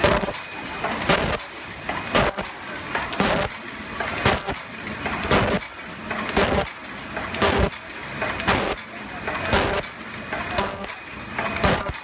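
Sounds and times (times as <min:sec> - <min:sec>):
machine clattering: 0:00.0 - 0:12.0.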